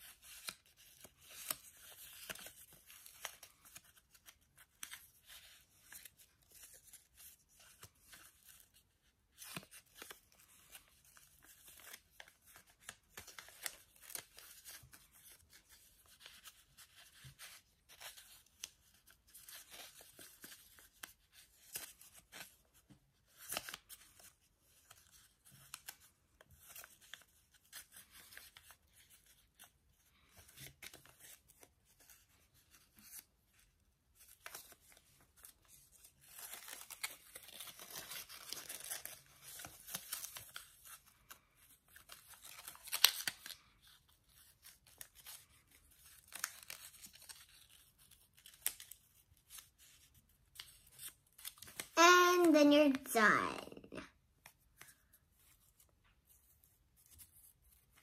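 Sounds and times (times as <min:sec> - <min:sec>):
paper rustling and crinkling: 0:00.0 - 0:52.9, 0:54.4 - 0:58.0.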